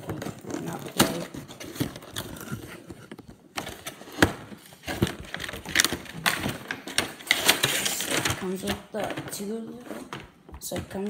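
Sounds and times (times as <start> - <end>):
box knocks clicks and rustles: 0.0 - 11.0.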